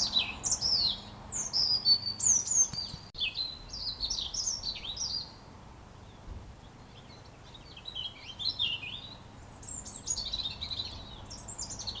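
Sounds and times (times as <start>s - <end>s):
robin singing: 0.0s - 5.4s, 6.8s - 12.0s.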